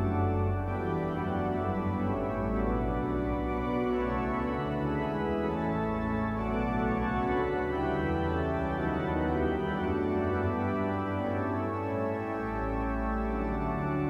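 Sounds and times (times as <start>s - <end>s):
pipe organ playing chords: 0.0s - 14.0s.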